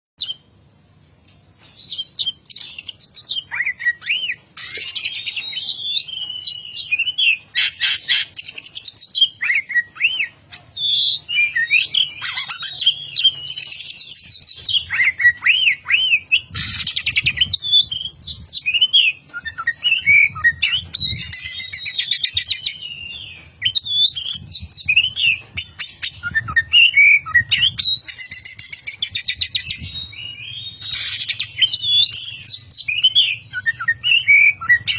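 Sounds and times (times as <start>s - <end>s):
bird whistled song: 0.2s - 34.9s.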